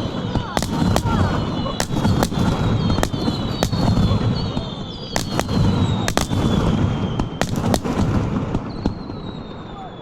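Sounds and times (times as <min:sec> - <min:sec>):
fireworks bangs: 0:00.0 - 0:10.0
low rumble of fireworks: 0:00.0 - 0:10.0.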